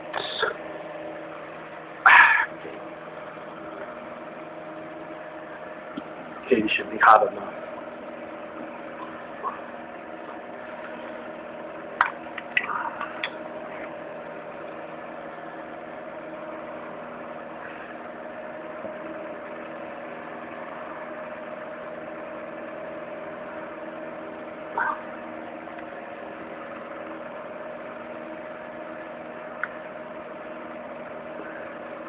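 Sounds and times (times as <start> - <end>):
fan heater humming: 0.0 - 32.0.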